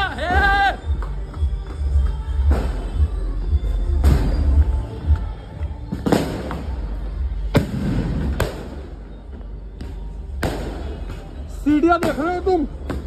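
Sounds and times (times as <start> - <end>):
bass-heavy music: 0.0 - 13.0.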